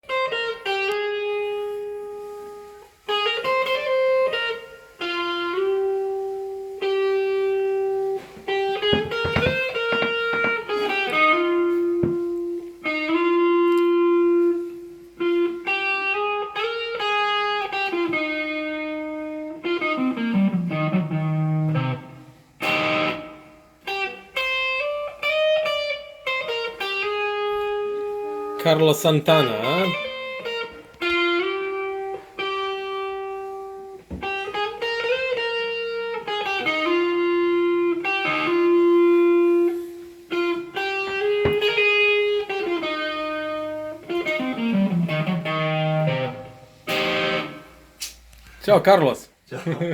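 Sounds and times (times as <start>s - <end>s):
electric guitar lead line: 0.0s - 48.0s.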